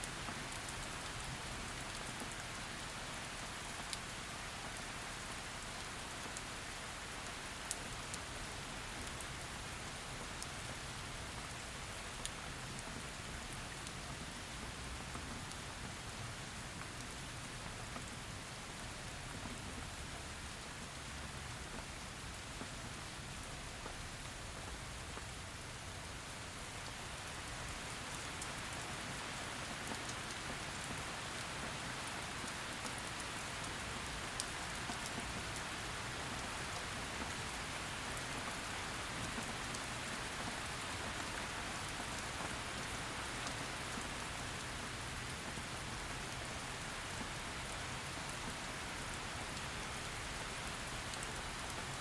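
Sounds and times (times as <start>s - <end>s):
heavy rain on a surface: 0.0s - 52.0s.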